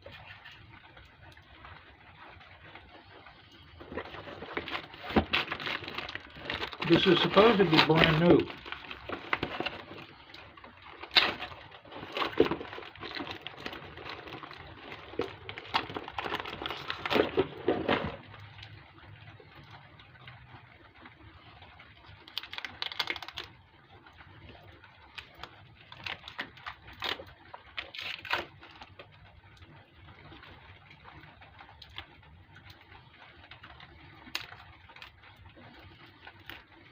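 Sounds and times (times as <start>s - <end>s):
packaging rustle: 0.0s - 36.9s.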